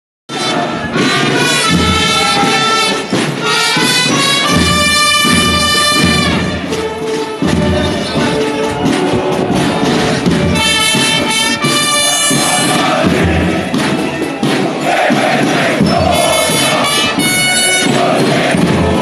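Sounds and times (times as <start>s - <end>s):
brass holding long notes: 0.3s - 19.0s
military band playing march: 0.3s - 19.0s.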